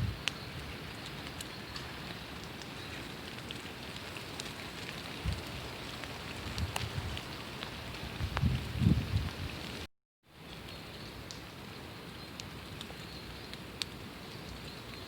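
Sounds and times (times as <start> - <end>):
steady rain: 0.0 - 15.0
water drips: 0.2 - 8.6, 10.4 - 15.0.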